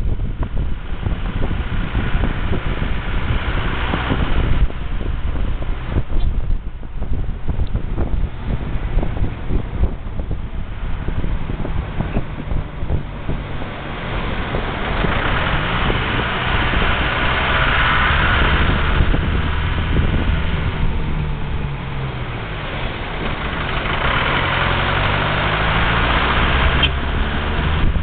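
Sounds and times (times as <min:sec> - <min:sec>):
car engine: 0:00.0 - 0:28.0
road noise: 0:00.0 - 0:28.0.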